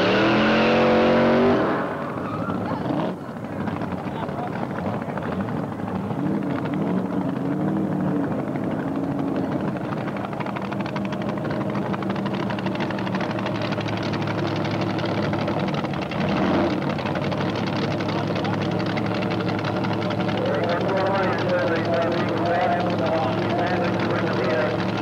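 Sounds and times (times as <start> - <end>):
modified car engine revving: 0.0 - 25.0.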